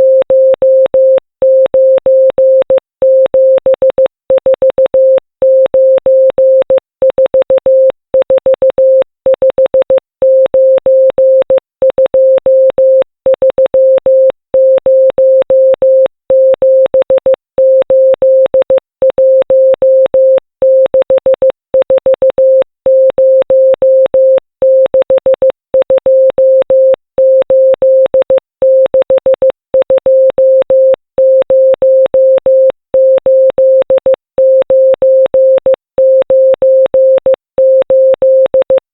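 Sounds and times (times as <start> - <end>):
morse code tone: 0.0 - 38.9.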